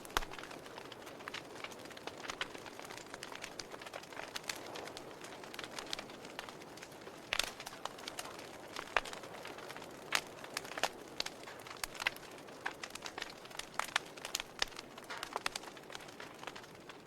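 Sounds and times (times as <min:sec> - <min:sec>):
campfire crackling and popping: 0:00.0 - 0:17.0
soft steady hiss: 0:00.0 - 0:17.0.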